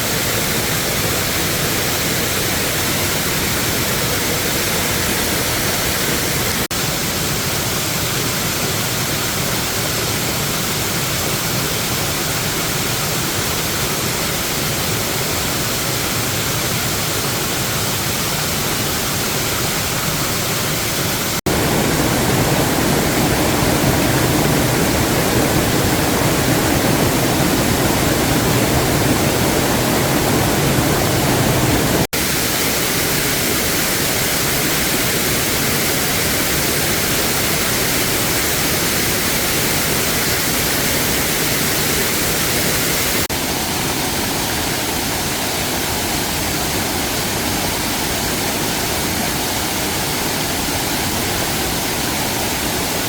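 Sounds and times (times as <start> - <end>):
waterfall roar: 0.0 - 53.0.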